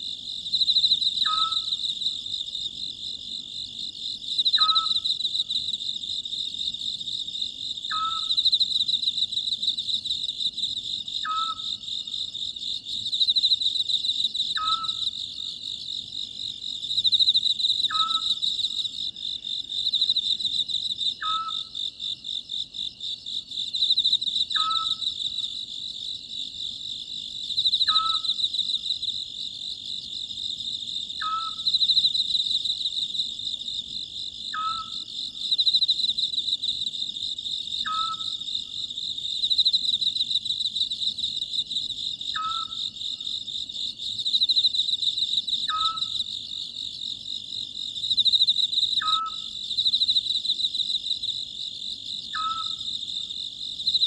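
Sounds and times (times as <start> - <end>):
night insects chorus: 0.0 - 54.0.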